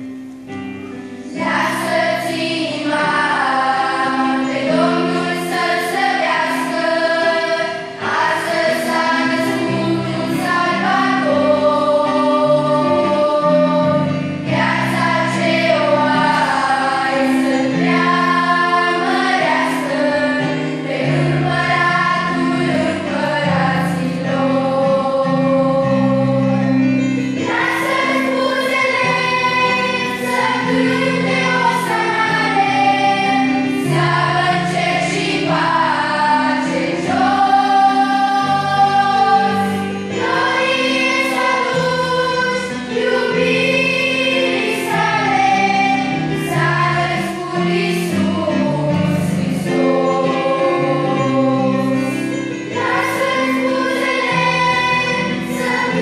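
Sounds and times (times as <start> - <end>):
youth choir singing: 1.2 - 56.0.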